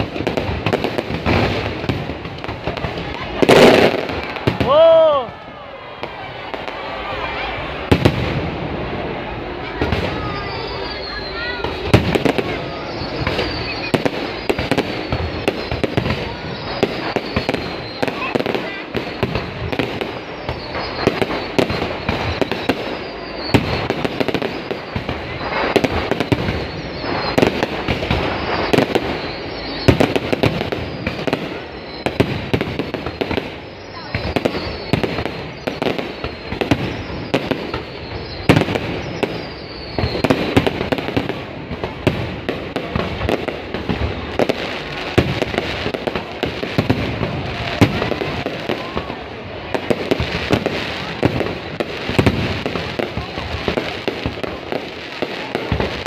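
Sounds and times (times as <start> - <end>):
falling firework whistles: 0.0 - 56.0
fireworks bangs: 0.0 - 56.0
fireworks crackling: 0.0 - 56.0.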